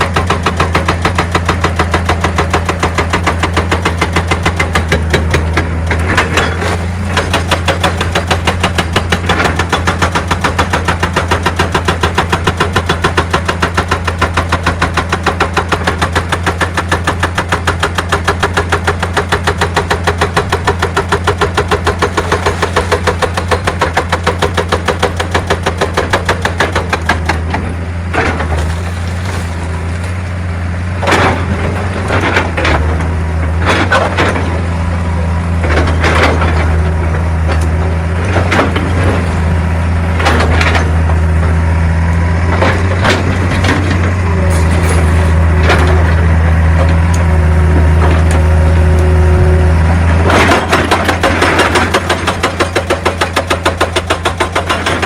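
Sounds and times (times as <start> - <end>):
hydraulic rock breaker hammering: 0.0 - 30.2, 30.9 - 55.0
diesel engine running: 0.0 - 55.0.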